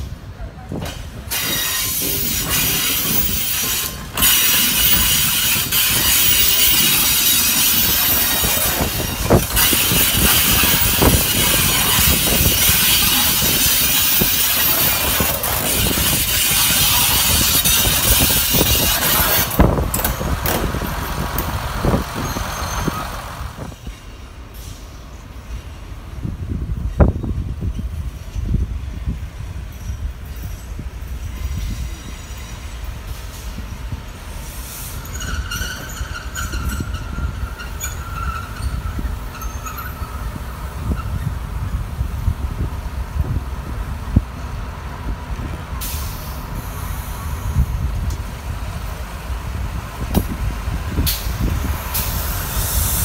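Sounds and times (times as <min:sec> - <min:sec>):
diesel railcar engines running: 0:00.0 - 0:53.0
wheels rumbling on rails: 0:00.0 - 0:53.0.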